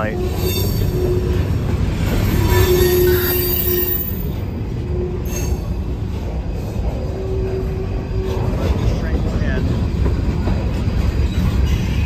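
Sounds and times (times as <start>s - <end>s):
train wheel squeal: 0.0s - 9.6s, 11.0s - 12.0s
freight train wheels rumbling: 0.0s - 12.0s.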